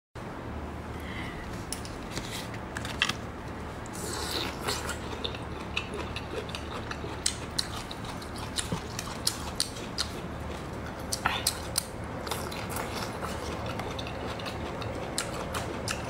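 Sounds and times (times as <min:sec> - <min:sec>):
low steady hum: 0:00.2 - 0:16.0.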